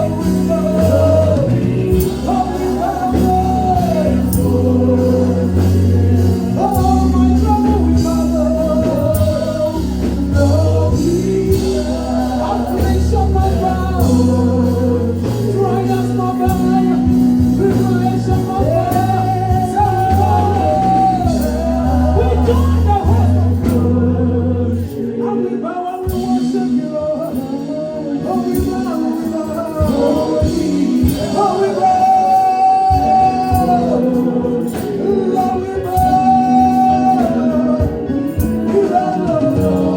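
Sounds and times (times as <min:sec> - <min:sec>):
band with heavy bass line: 0:00.0 - 0:39.9
gospel singing voices: 0:00.0 - 0:39.9.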